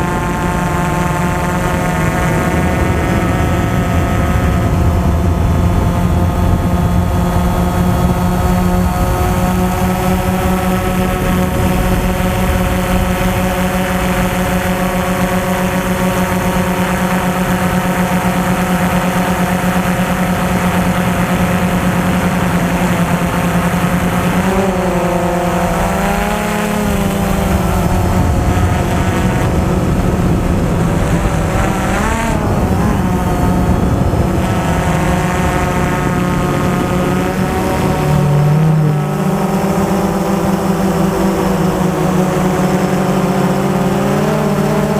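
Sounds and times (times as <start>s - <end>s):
drone motors whining: 0.0s - 44.9s
strong wind rumble: 0.0s - 44.9s.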